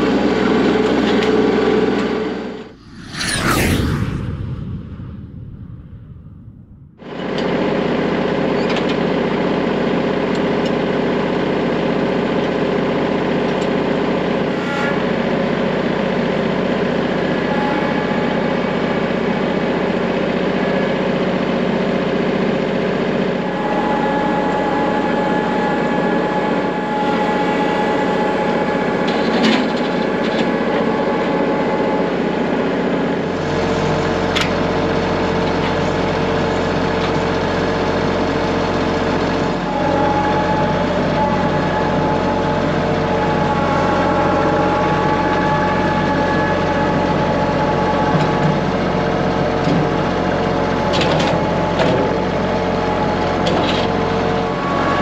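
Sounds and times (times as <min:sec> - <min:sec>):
tractor diesel engine running: 0:07.1 - 0:55.0.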